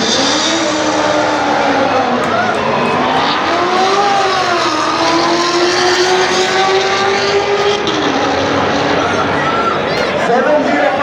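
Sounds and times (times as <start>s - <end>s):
race car engine accelerating: 0.0s - 10.1s.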